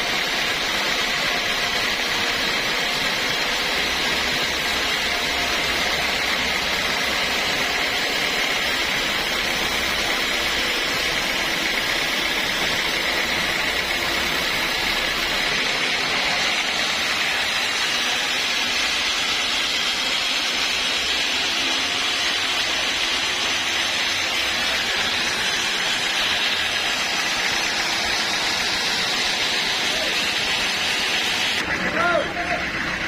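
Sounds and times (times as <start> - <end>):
saw blade cutting through log: 0.0 - 31.7.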